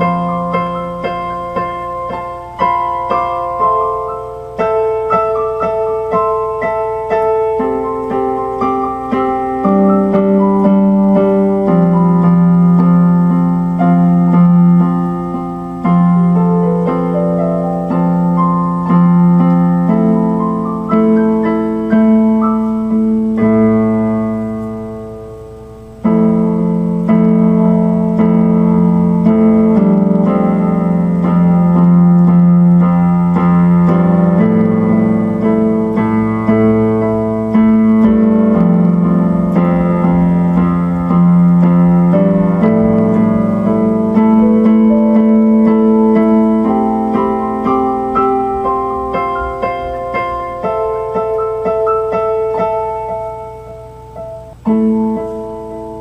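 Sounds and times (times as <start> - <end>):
electronic keyboard piano playing: 0.0 - 56.0.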